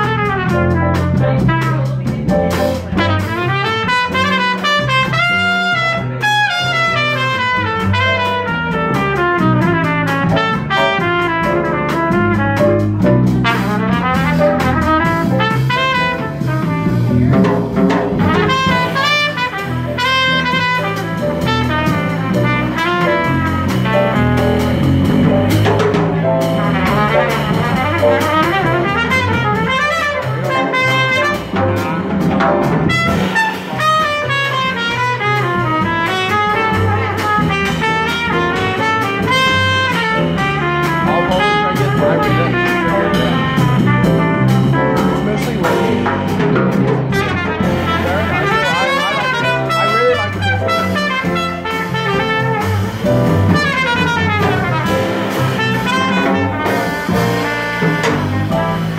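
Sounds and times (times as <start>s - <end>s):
trumpet solo: 0.0s - 2.1s, 2.7s - 25.8s, 26.4s - 58.9s
drum kit: 0.0s - 58.9s
plucked double bass: 0.0s - 58.9s.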